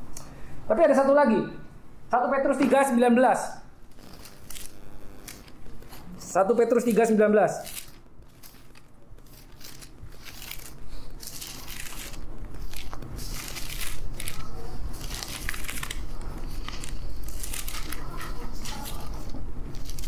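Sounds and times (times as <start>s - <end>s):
paper pages rustling: 3.9s - 20.0s.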